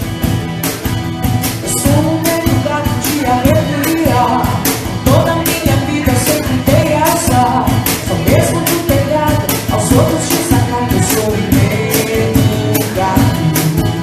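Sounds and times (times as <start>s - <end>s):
band playing a song: 0.0s - 14.0s
lead vocal singing: 1.6s - 14.0s.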